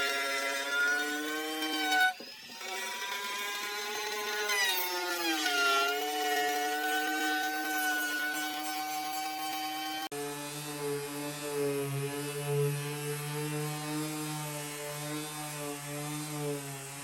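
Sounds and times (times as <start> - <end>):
power tool cutting wood: 0.0 - 17.0.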